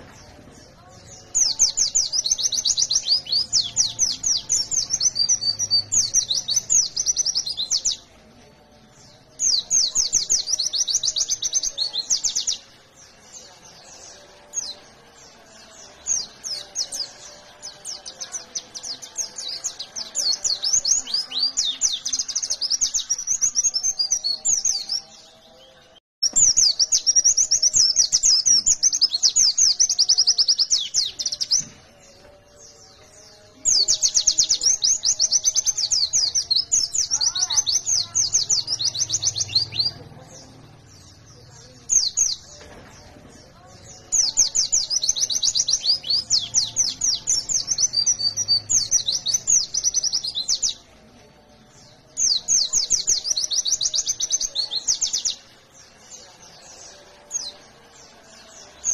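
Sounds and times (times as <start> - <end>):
bird high twittering song: 0.0 - 8.1, 8.7 - 58.9.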